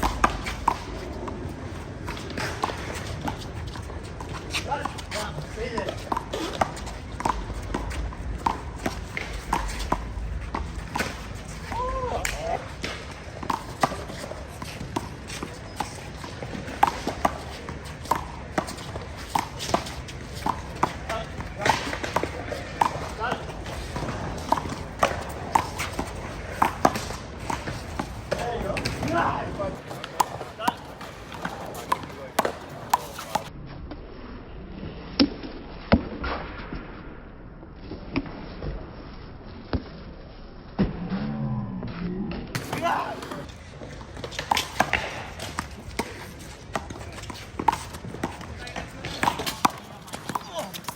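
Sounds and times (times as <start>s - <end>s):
running footsteps on court: 0.0s - 33.5s, 42.6s - 50.9s.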